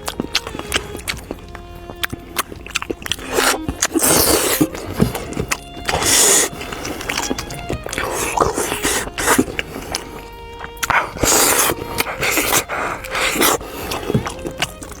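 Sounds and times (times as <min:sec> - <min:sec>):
slurping and chewing: 0:00.0 - 0:15.0.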